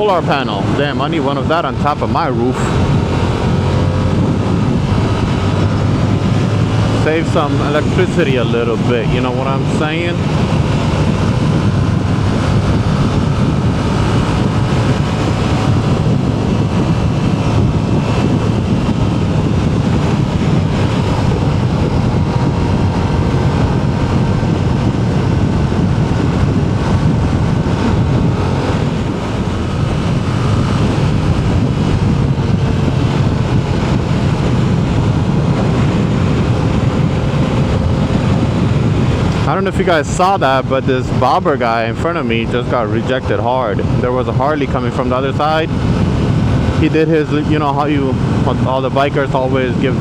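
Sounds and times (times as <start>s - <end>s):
motorcycle engine running: 0.0s - 50.0s
wind rush on microphone: 0.0s - 50.0s.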